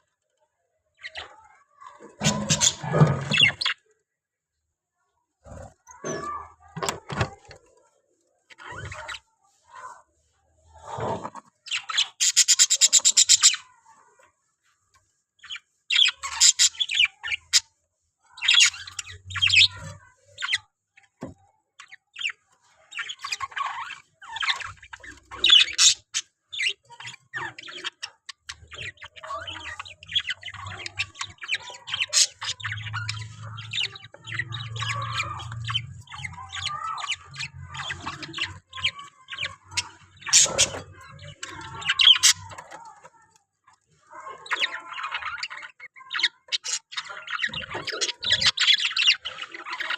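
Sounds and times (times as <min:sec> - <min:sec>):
budgerigars chirping and chattering: 0:01.0 - 0:04.0, 0:08.5 - 0:10.0, 0:10.6 - 0:13.9, 0:15.4 - 0:49.9.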